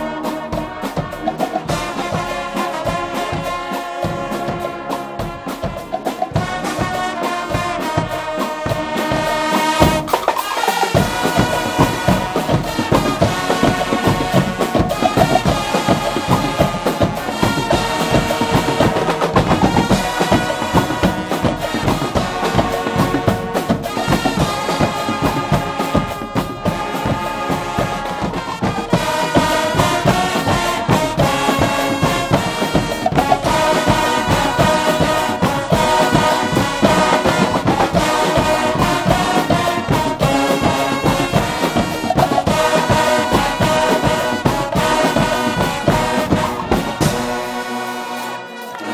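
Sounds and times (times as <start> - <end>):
brassy trumpets and trombones: 0.0 - 48.9
drum beat: 0.0 - 48.9.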